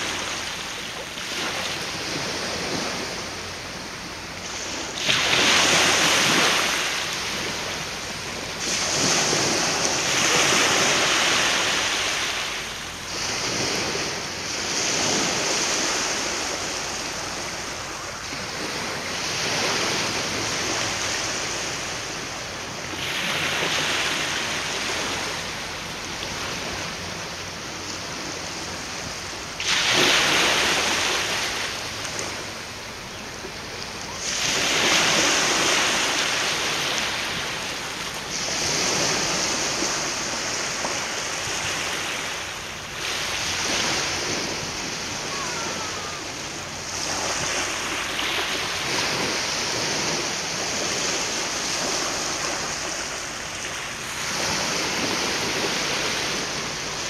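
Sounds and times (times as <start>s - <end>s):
waves washing ashore: 0.0s - 57.0s.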